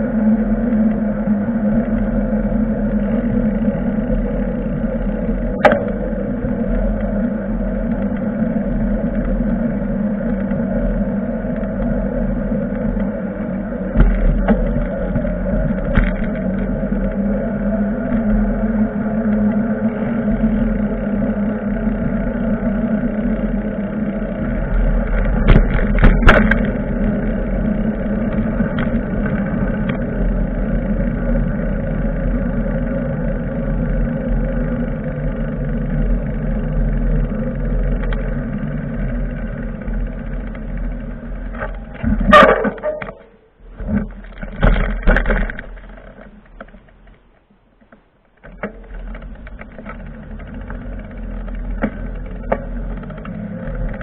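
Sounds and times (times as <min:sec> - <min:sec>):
bicycle road and wind noise: 0:00.0 - 0:54.0.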